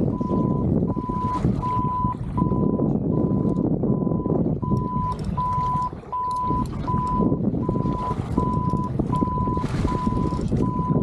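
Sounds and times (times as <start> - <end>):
low rumbling noise: 0.0 - 11.0
electronic alarm beeping: 0.1 - 11.0.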